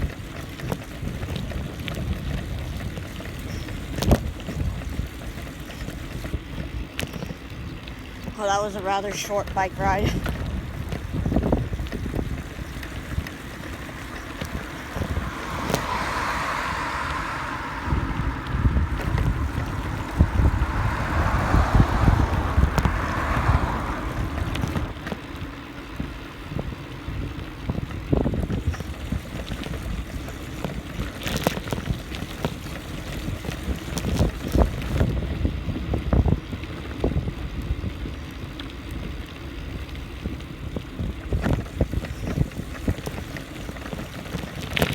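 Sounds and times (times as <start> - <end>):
constant low rumble: 0.0 - 44.9
wind buffeting microphone: 0.0 - 44.9.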